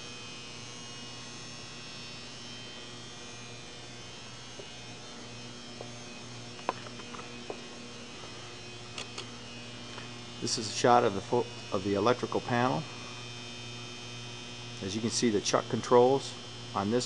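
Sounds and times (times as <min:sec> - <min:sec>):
electrical hum: 0:00.0 - 0:17.0
thin high whine: 0:00.0 - 0:17.0.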